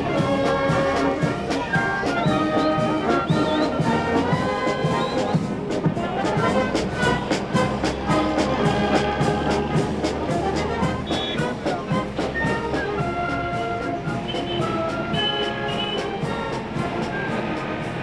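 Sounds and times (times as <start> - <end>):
brass band music: 0.0 - 18.0.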